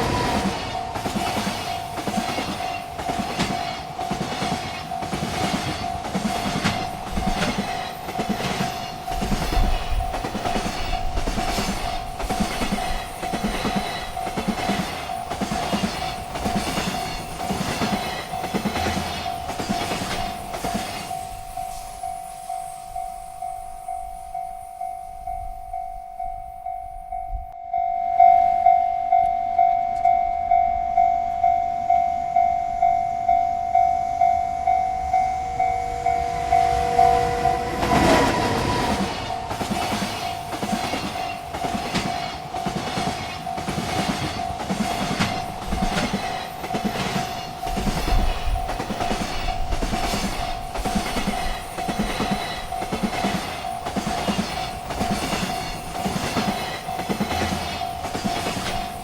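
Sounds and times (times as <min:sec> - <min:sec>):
freight train wheels clicking: 0:00.0 - 0:27.3, 0:32.4 - 0:59.0
railroad crossing bell ringing: 0:00.0 - 0:59.0.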